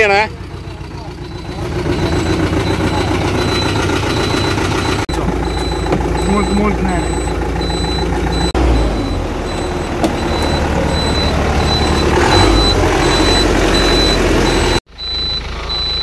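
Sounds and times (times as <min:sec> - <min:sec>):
bus diesel engine running: 0:00.0 - 0:16.0
short high warning beeps: 0:01.1 - 0:16.0.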